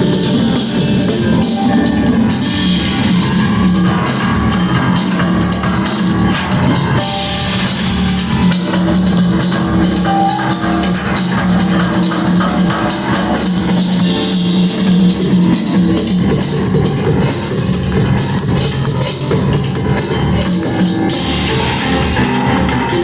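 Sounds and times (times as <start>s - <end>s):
drum kit beat: 0.0s - 23.0s
rock band playing live: 0.0s - 23.0s.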